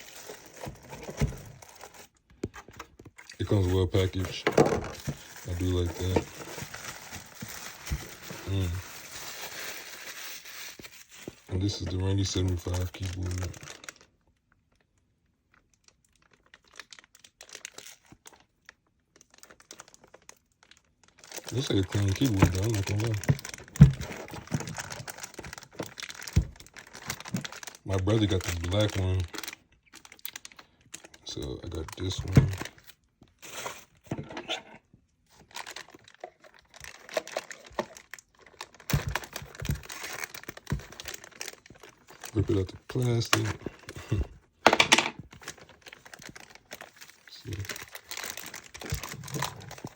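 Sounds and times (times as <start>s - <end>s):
plastic packaging crinkling: 0.0s - 14.1s, 15.6s - 18.6s, 19.2s - 34.1s, 35.3s - 49.9s
plastic rustling: 0.0s - 14.1s, 19.2s - 49.9s.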